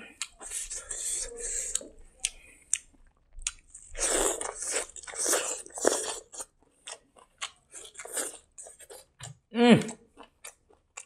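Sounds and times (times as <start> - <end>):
wet crunchy chewing of greens: 1.6 - 11.0.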